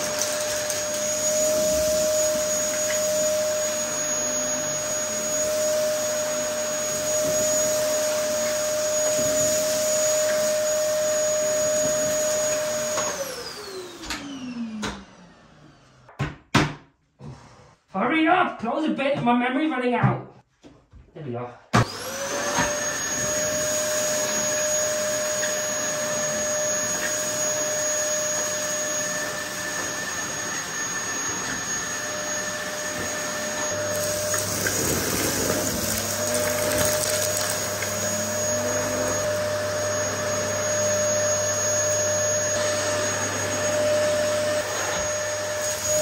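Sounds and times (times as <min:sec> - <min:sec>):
vacuum cleaner motor whine: 0:00.0 - 0:16.1, 0:21.8 - 0:46.0.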